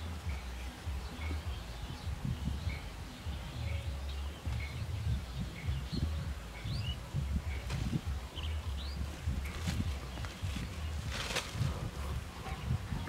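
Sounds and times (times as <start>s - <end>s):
low uneven rumble: 0.0s - 13.0s
small birds chirping: 0.0s - 13.0s.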